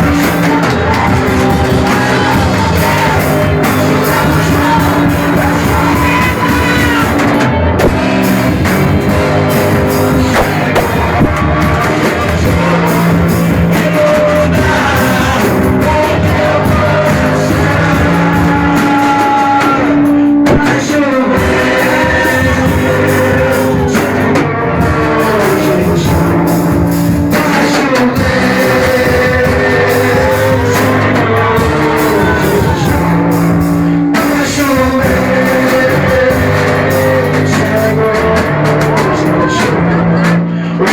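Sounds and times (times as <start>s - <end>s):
person singing: 0.0s - 40.9s
rock band music: 0.0s - 40.9s.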